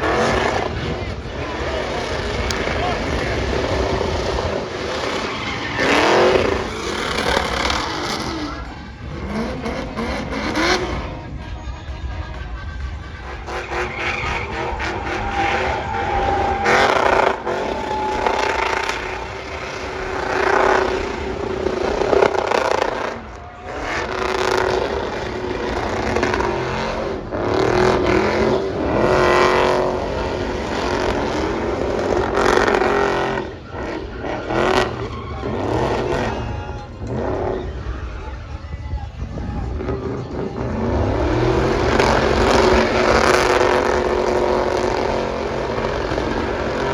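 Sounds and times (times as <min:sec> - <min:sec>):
race engines revving: 0:00.0 - 0:46.9.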